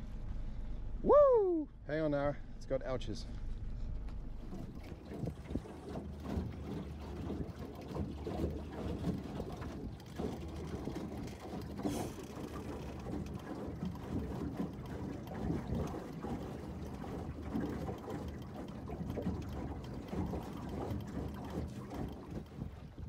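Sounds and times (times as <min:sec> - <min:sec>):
water lapping against boat hull: 0:03.4 - 0:23.0.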